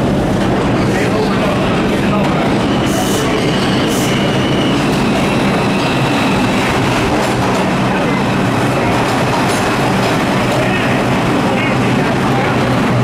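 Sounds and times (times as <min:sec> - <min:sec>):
subway train wheels rumbling: 0:00.0 - 0:13.0.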